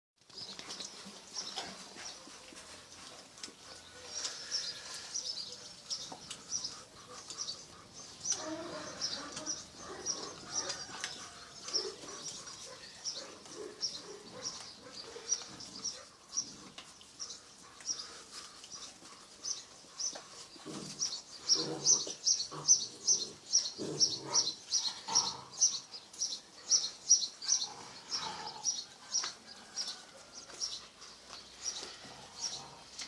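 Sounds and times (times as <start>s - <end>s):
puppy noises: 0.5s - 33.0s.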